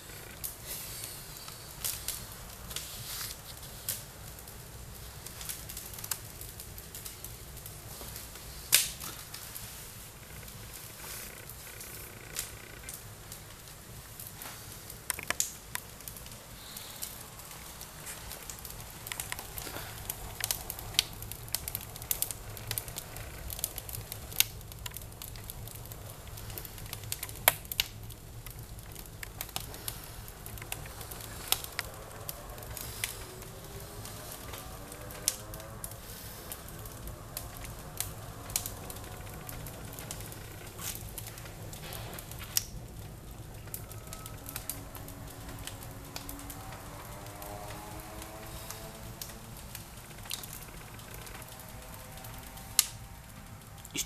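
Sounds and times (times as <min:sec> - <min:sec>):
low steady hum: 0:00.0 - 0:54.0
wood fire crackling and popping: 0:00.0 - 0:54.0.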